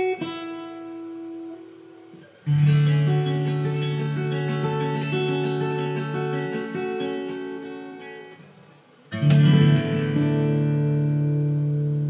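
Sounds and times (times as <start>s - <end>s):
acoustic guitars picking notes: 0.0s - 12.0s
strummed guitar chord ringing: 0.0s - 12.0s.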